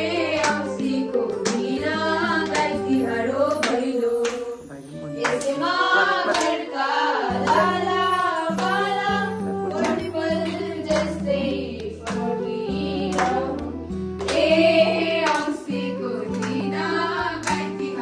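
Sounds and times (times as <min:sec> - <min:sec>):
women singing in unison: 0:00.0 - 0:04.6, 0:05.2 - 0:18.0
low musical accompaniment: 0:00.0 - 0:18.0
hand claps: 0:00.2 - 0:06.7, 0:07.3 - 0:18.0.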